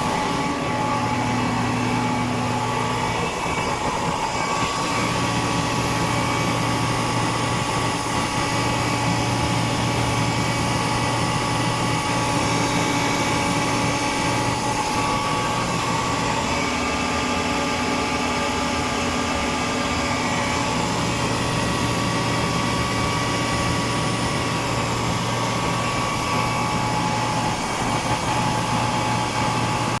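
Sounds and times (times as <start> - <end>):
air compressor drone: 0.0 - 30.0.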